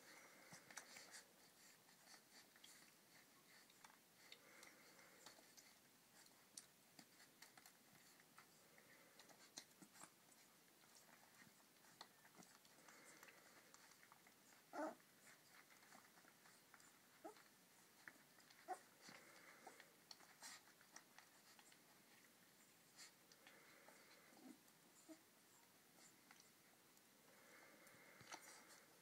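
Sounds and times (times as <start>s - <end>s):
puppies suckling: 0.0s - 29.0s.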